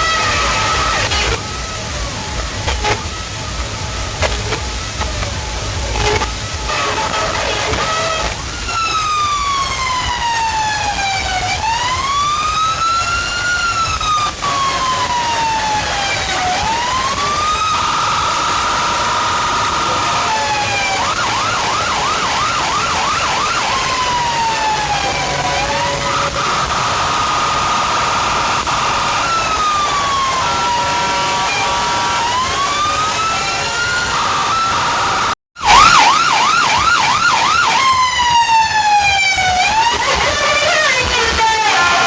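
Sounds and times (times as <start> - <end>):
electronic siren wailing: 0.0 - 42.0.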